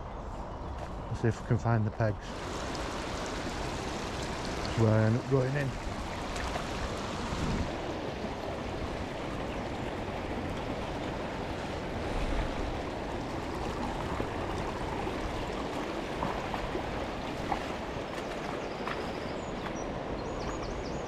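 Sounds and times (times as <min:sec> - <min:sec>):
river water running over stones: 0:02.2 - 0:21.0.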